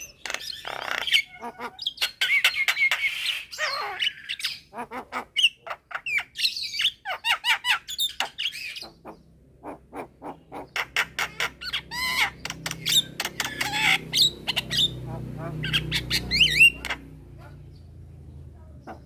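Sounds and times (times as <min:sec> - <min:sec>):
myna squawking and chirping: 0:00.0 - 0:17.8.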